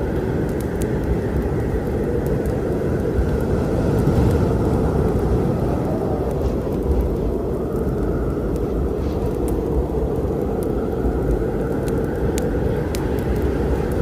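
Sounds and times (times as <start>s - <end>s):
storm rumble: 0.0s - 14.0s
wood fire crackling: 0.0s - 14.0s.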